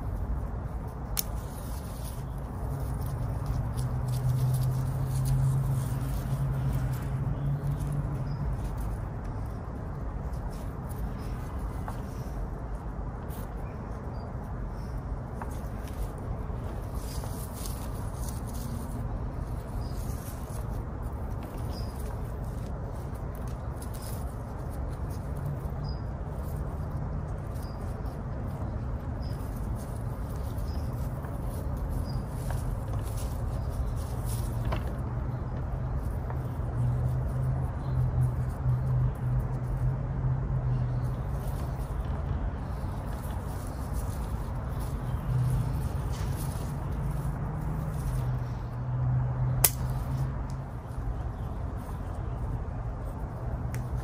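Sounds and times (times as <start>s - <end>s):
leaves and branches rustling: 0.0s - 54.0s.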